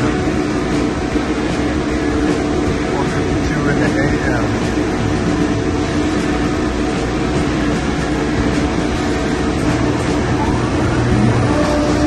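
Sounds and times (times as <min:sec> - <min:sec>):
constant hum: 0:00.0 - 0:12.0
machinery drone: 0:00.0 - 0:12.0.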